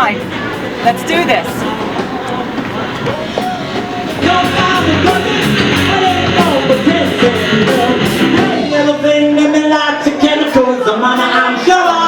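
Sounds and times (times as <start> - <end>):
rock band playing loudly: 0.0 - 12.0.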